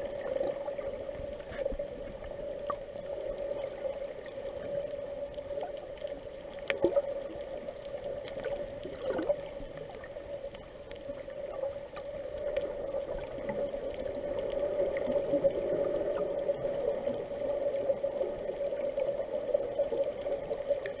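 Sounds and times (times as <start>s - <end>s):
crackling clicks: 0.0s - 21.0s
water moving underwater: 0.0s - 21.0s.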